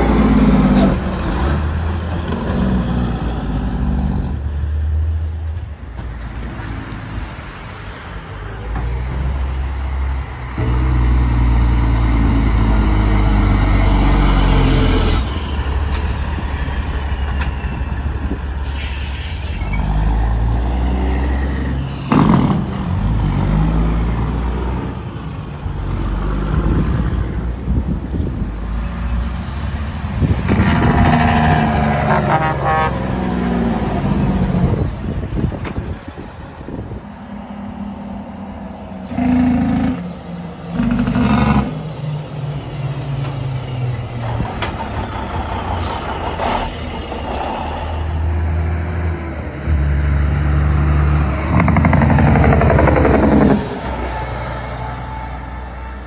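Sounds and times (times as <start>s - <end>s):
diesel truck engines passing: 0.0s - 56.0s.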